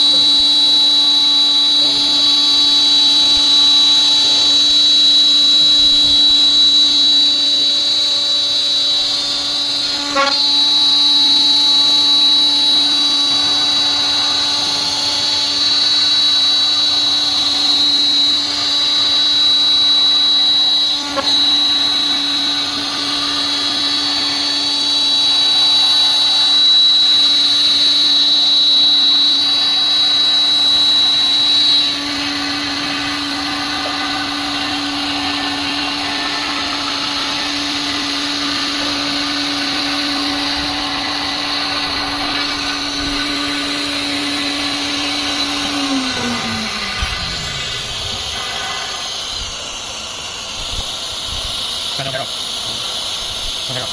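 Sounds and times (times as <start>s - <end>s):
router spindle milling aluminum: 0.0s - 53.9s.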